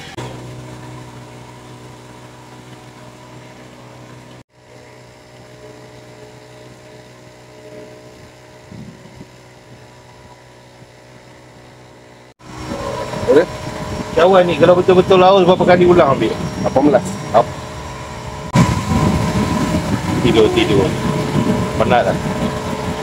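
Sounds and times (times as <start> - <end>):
low mechanical drone: 0.0 - 23.0.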